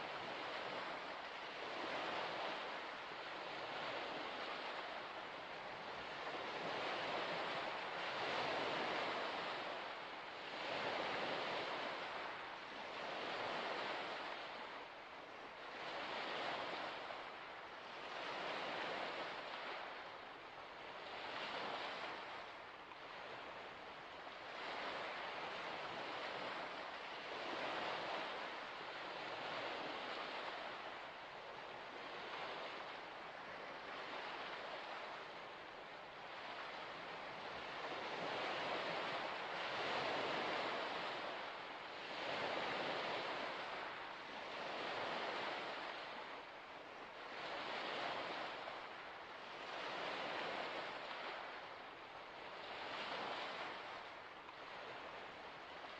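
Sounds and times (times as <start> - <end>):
small waves washing onto shore: 0.0 - 55.9.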